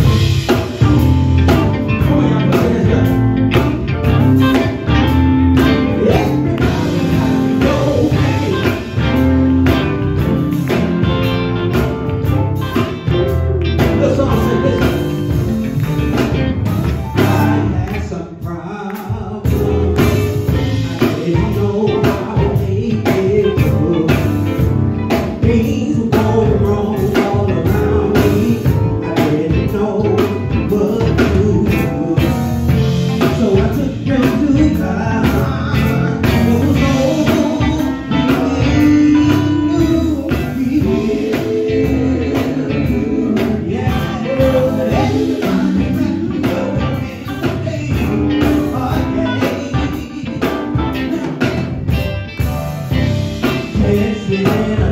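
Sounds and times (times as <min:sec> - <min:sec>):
gospel band playing: 0:00.0 - 0:54.9
man singing into a microphone: 0:01.4 - 0:04.9, 0:05.6 - 0:09.0, 0:13.8 - 0:15.4, 0:17.2 - 0:51.9, 0:53.6 - 0:54.9.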